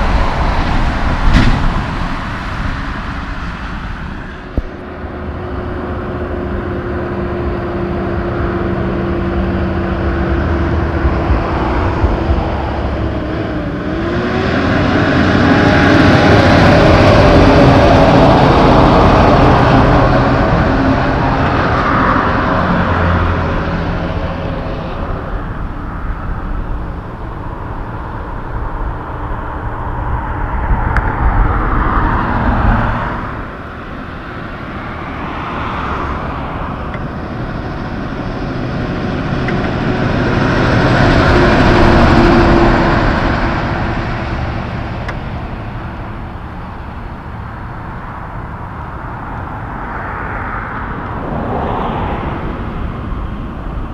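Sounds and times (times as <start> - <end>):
truck diesel engine and tyres: 0.0 - 53.9
vehicles passing: 0.0 - 53.9.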